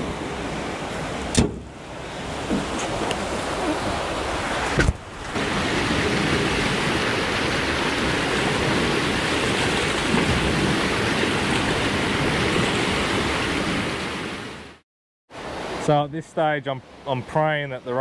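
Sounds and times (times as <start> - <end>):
floodwater rushing under bridge: 0.0 - 18.0.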